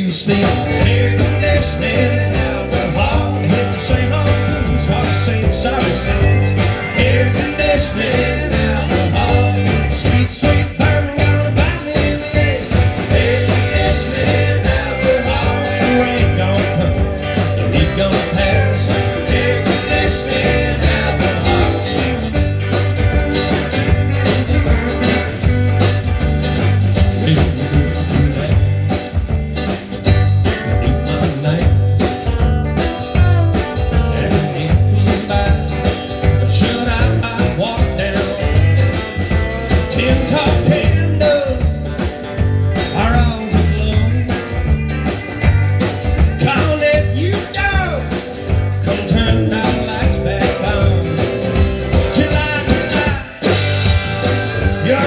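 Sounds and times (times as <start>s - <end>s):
electric guitar: 0.0s - 55.0s
live band playing country-rock: 0.0s - 55.0s.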